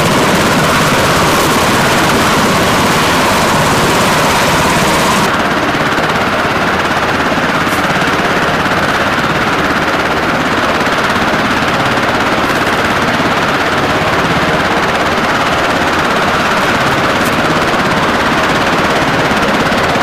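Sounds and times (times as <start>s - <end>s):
helicopter engine rushing: 0.0s - 20.0s
helicopter rotor beating: 0.0s - 20.0s.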